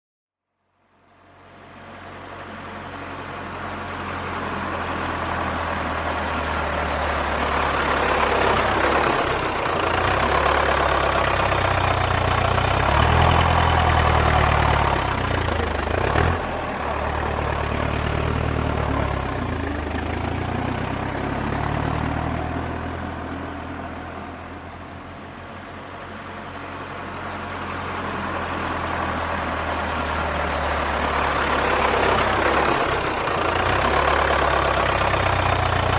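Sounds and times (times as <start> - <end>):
tractor engine throbbing: 1.8 - 35.9.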